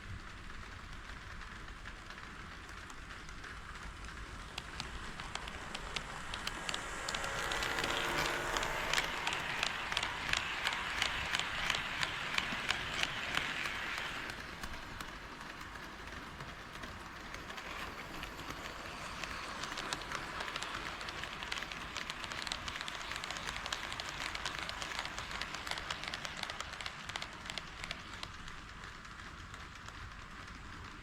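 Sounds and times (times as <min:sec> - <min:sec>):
model train wheels clicking: 0:00.1 - 0:31.0.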